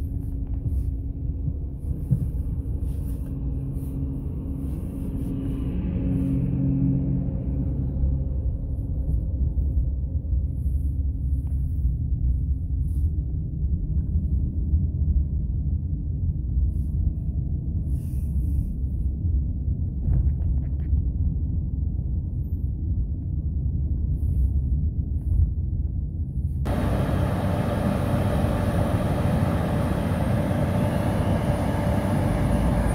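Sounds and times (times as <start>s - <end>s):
car driving low rumble: 0.0s - 32.9s.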